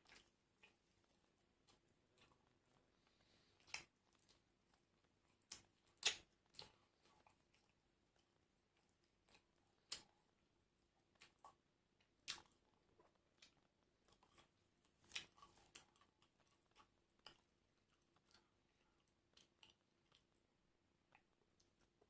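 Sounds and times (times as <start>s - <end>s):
chewing crisp fried food: 0.0s - 22.0s.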